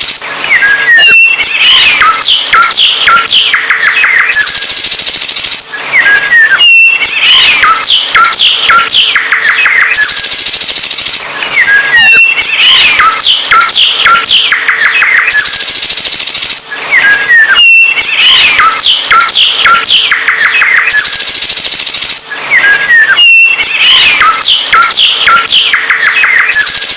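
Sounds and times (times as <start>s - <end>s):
songbird singing: 0.0s - 26.9s.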